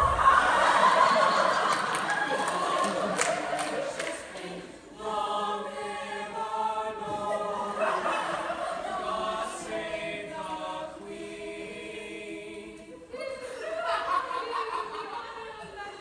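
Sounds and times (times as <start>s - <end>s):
group singing in harmony: 0.0s - 14.2s.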